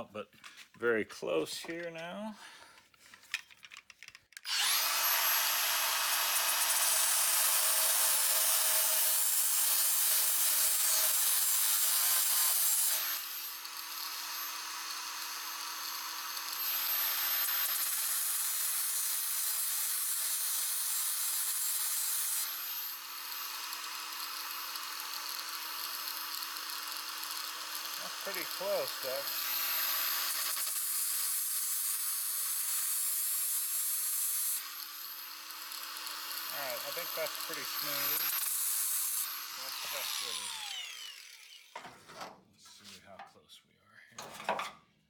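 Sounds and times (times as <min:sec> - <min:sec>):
electric power tool grinding metal: 0:04.4 - 0:42.0.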